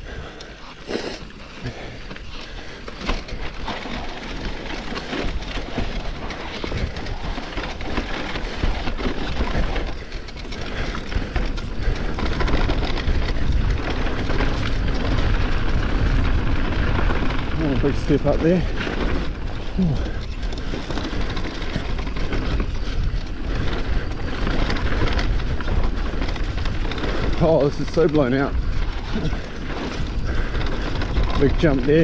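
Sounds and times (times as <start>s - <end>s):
bike tyres and frame rattling: 0.0s - 32.0s
wind buffeting microphone: 0.0s - 32.0s.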